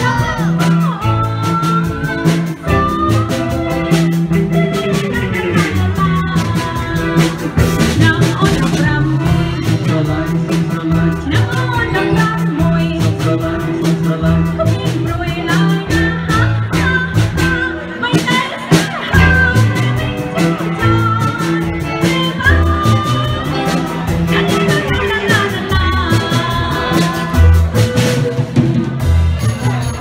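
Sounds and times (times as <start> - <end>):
woman singing into a microphone: 0.0 - 27.8
drum kit dance beat: 0.0 - 30.0
electric guitar: 0.0 - 30.0.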